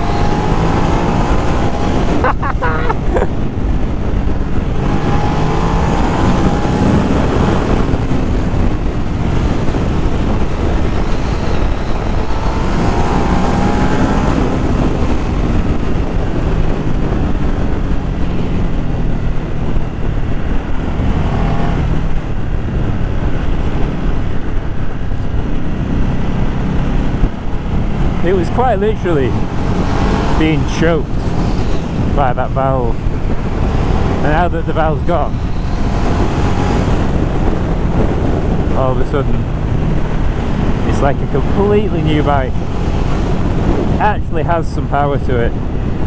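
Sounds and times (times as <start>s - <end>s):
motorcycle engine accelerating: 0.0s - 46.0s
wind rushing over microphone: 0.0s - 46.0s.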